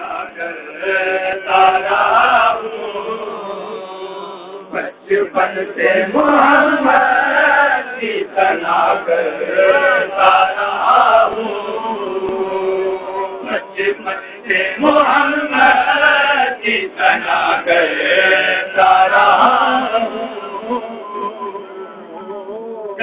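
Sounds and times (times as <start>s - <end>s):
men chanting unaccompanied: 0.0s - 23.0s.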